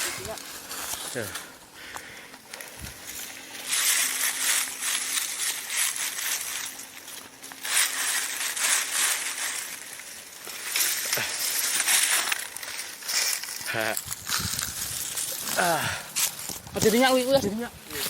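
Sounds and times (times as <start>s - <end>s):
footsteps on gravel and leaves: 0.0s - 18.0s.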